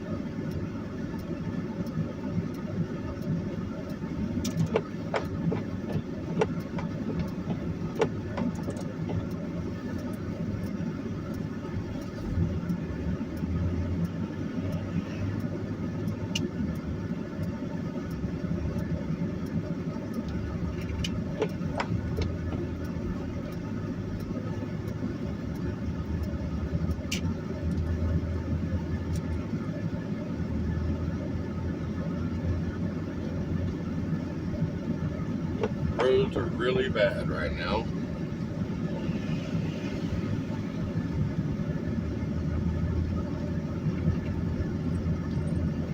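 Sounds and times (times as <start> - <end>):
engine and tyres rumbling: 0.0 - 45.9.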